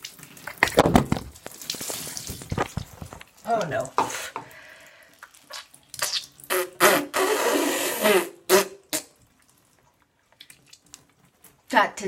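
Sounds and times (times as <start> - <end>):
water splashing in bathtub: 0.0 - 7.2, 9.0 - 11.6.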